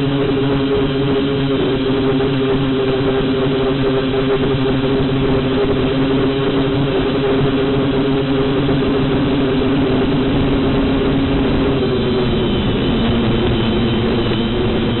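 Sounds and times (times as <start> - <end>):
drone propellers buzzing: 0.0 - 15.0
thin high whine: 0.0 - 15.0.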